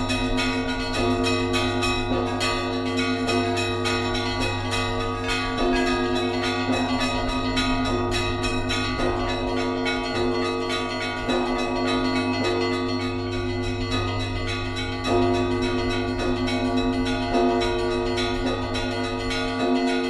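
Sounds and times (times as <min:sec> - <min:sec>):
deep bell strikes: 0:00.0 - 0:20.0
small high bells ringing: 0:00.0 - 0:20.0.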